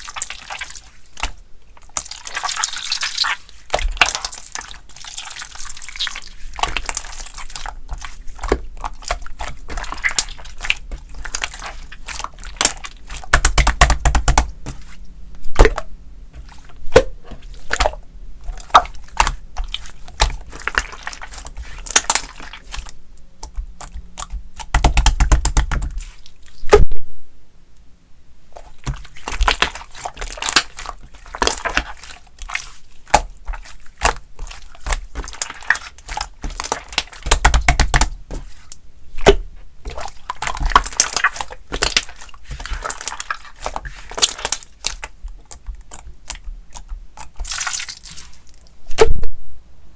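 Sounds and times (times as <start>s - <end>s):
slime squished by hand: 0.0s - 26.8s, 28.6s - 49.2s.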